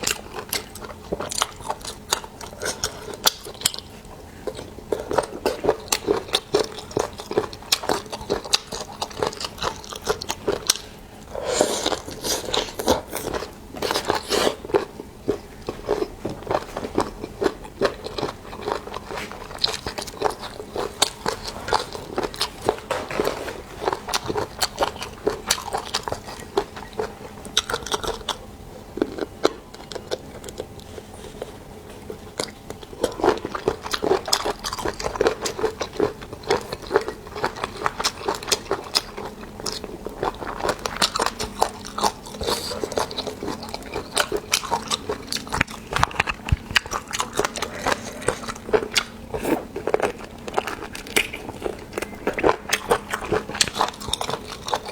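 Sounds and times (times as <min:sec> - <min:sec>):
person chewing seafood: 0:00.0 - 0:54.9.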